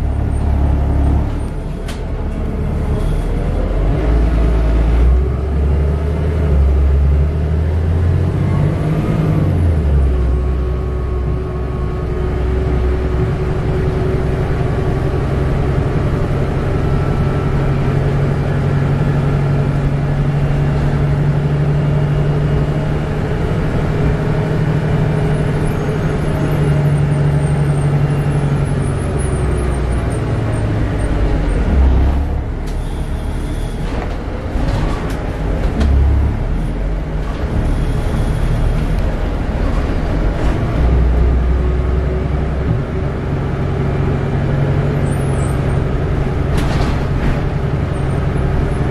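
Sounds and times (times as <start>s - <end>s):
bus engine drone: 0.0s - 48.9s.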